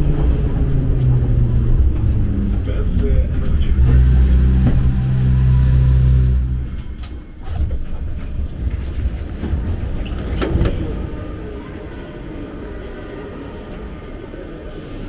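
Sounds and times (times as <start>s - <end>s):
subway train humming: 0.0s - 15.0s.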